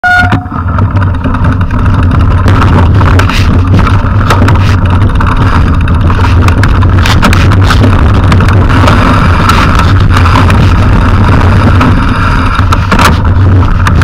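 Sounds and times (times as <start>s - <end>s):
bike rattling over gravel: 0.0s - 14.0s
wind rumble on microphone: 0.0s - 14.0s.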